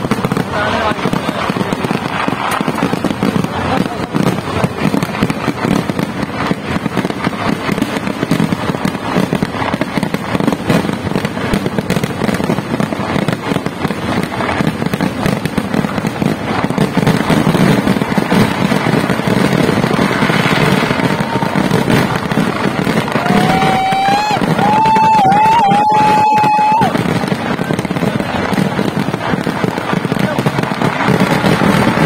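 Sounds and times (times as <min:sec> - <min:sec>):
fireworks bangs and crackling: 0:00.0 - 0:32.0.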